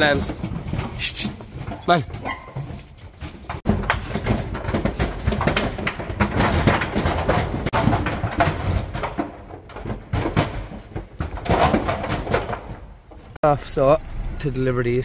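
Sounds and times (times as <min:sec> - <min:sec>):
hooves clattering on metal ramp: 0:00.0 - 0:13.4.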